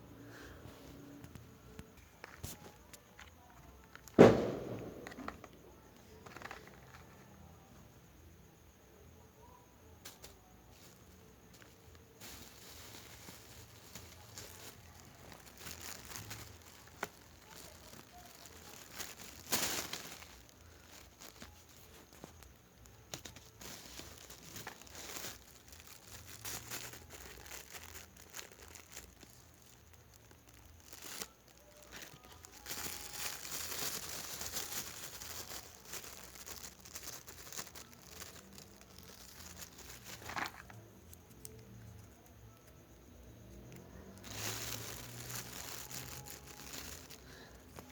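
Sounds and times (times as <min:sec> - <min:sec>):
crinkly material rustling: 0:00.4 - 0:07.6, 0:09.4 - 0:47.9.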